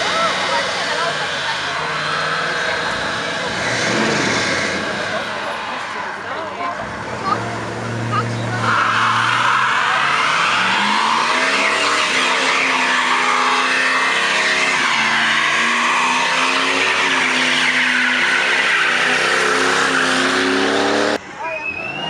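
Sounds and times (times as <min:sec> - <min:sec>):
car engine at high revs: 0:00.0 - 0:21.2
tyres squealing: 0:00.0 - 0:21.8.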